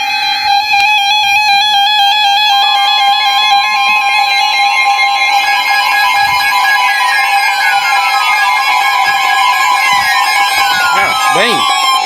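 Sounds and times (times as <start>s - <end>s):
electronic alarm tone: 0.0s - 12.0s
higher electronic tone: 0.0s - 12.0s.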